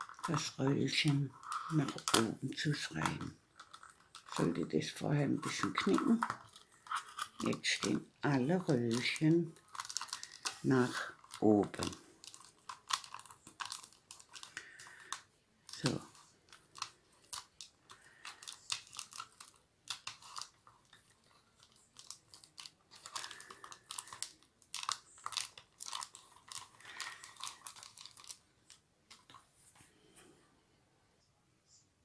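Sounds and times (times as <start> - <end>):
paper tubes crinkling: 0.0 - 29.9.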